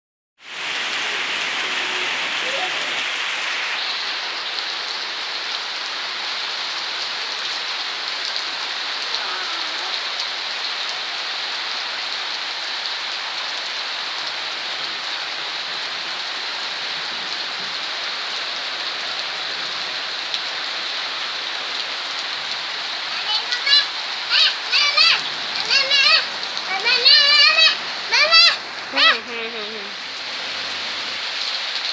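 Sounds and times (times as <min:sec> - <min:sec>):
steady rain falling: 0:00.4 - 0:31.9.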